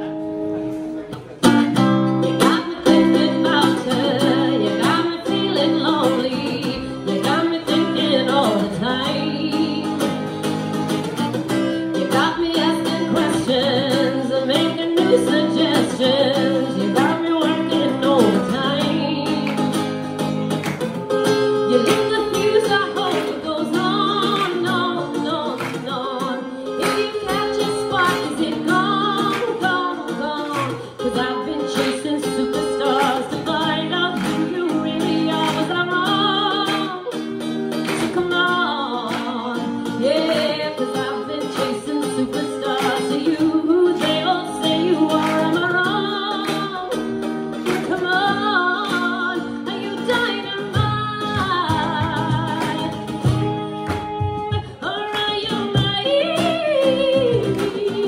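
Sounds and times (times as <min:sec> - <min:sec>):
strummed acoustic guitars: 0:00.0 - 0:58.0
woman singing: 0:01.8 - 0:20.3, 0:21.2 - 0:58.0.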